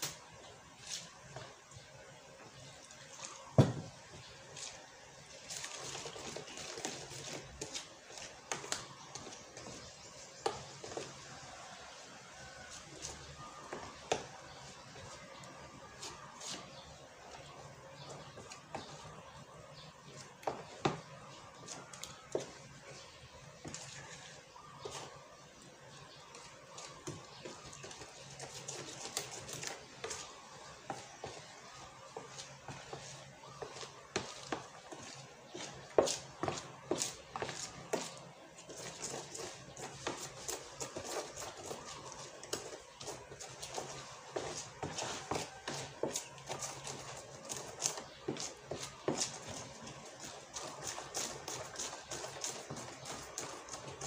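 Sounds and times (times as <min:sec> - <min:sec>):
fingers mixing flour in plastic tub: 0:00.0 - 0:54.0
hand squishing dough: 0:00.0 - 0:54.0.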